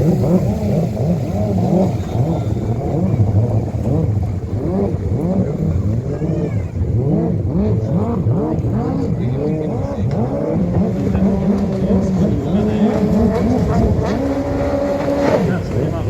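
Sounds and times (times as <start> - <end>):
jet ski engines revving: 0.0 - 16.0.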